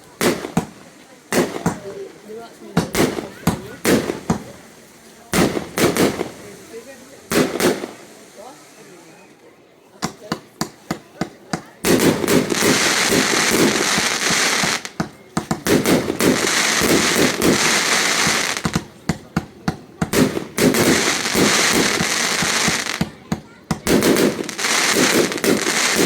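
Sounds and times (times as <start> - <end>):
fireworks bangs and crackling: 0.0 - 9.3, 10.0 - 26.0.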